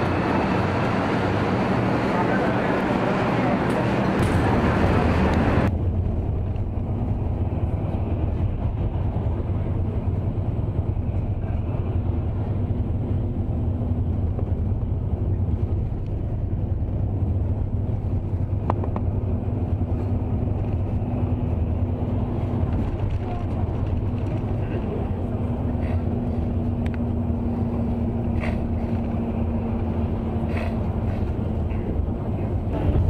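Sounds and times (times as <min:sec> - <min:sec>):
aircraft cabin low rumble: 0:00.0 - 0:33.0.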